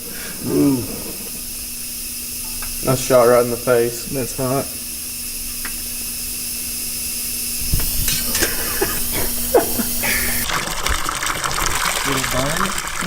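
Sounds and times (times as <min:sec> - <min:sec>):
spray hissing on hot metal: 0:00.0 - 0:10.5.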